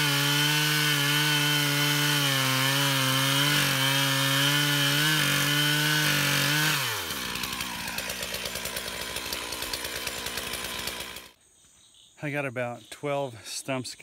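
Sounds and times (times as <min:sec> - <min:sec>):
chainsaw cutting through stump: 0:00.0 - 0:11.4.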